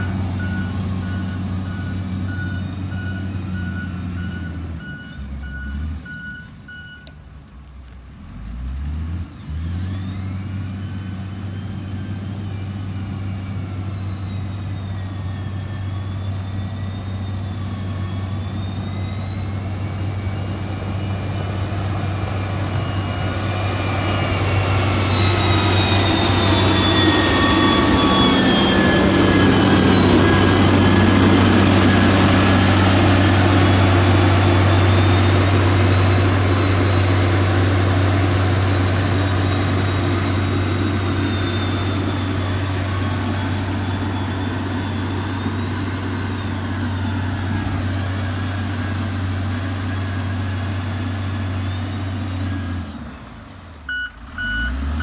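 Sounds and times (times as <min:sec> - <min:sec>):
reversing alarm beeping: 0:00.0 - 0:07.2, 0:10.4 - 0:48.6, 0:53.9 - 0:55.0
heavy diesel engine running: 0:00.0 - 0:07.5, 0:08.2 - 0:55.0.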